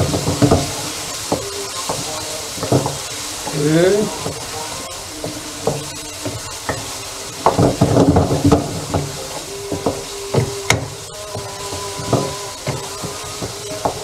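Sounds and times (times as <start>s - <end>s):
food sizzling in oil: 0.0s - 14.0s
spatula scraping and knocking pan: 0.0s - 14.0s.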